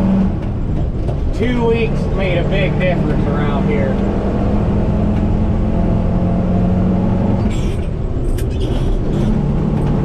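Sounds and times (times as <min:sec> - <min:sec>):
combine harvester droning: 0:00.0 - 0:10.0.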